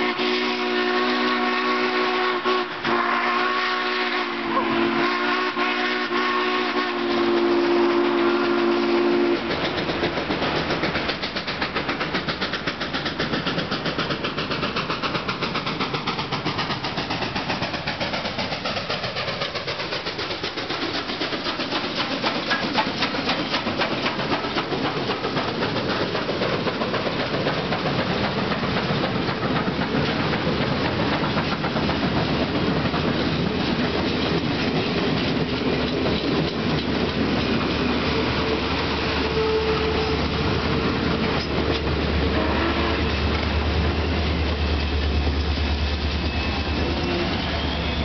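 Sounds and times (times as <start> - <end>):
diesel locomotive engine drone: 0.0 - 48.0
steam locomotive clatter: 0.0 - 48.0
train cars clicking over rail joints: 7.1 - 48.0.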